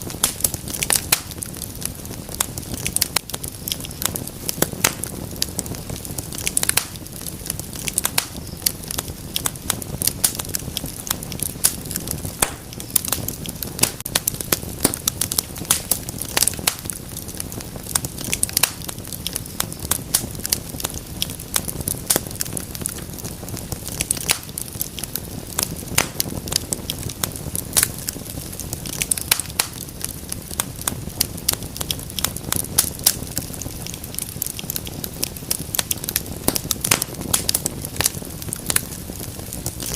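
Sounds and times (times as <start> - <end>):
fire popping and snapping: 0.0 - 39.9
low rumble of flames: 0.0 - 39.9
wood fire crackling: 0.0 - 39.9.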